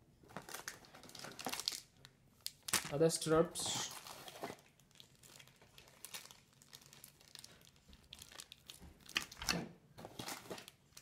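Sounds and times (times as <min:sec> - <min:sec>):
plastic bags crinkling: 0:00.3 - 0:11.0.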